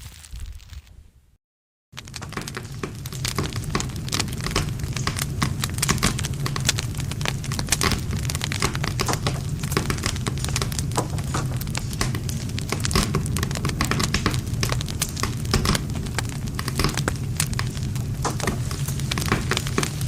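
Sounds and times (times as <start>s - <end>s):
burning wood snapping: 2.0s - 20.0s
low rumble of flame: 2.0s - 20.0s.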